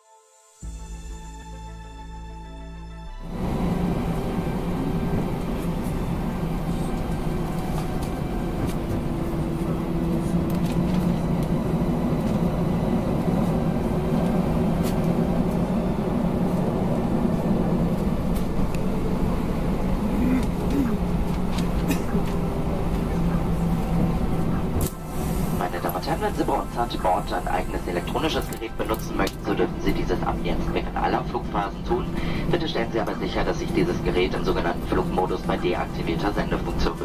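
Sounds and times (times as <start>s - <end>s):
jet airliner cabin hum: 3.2s - 37.0s.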